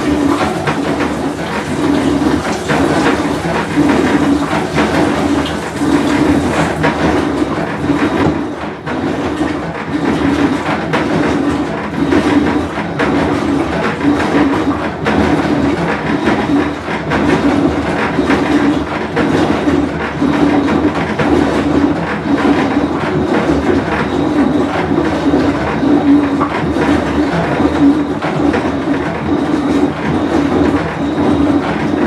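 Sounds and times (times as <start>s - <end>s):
washing machine rumbling drone: 0.0s - 32.0s.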